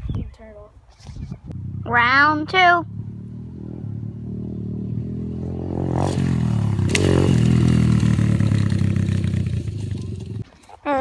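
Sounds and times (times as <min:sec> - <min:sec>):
off-road vehicle engine running: 0:01.4 - 0:10.5.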